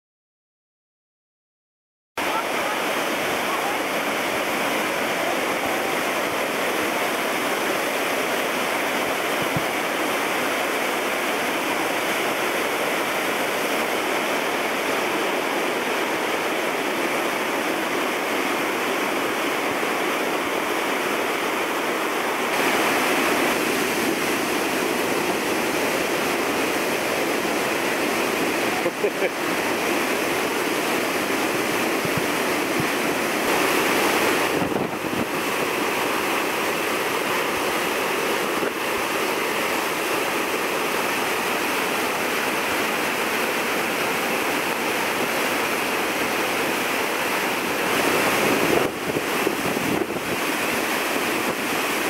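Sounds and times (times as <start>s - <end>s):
whitewater rushing: 2.2s - 52.0s.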